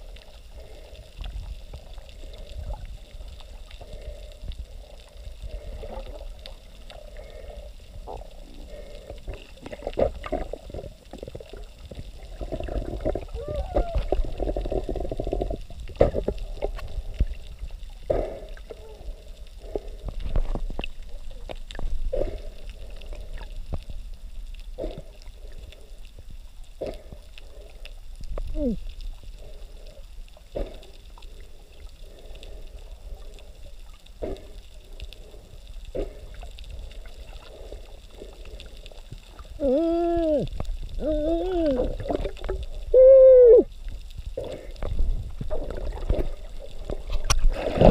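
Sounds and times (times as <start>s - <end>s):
underwater gurgling and bubbling: 0.0s - 47.9s.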